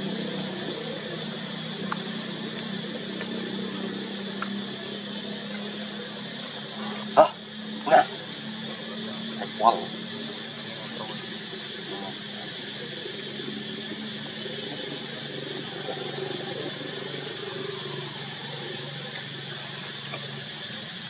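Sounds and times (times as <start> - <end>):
high hiss: 0.0 - 21.0.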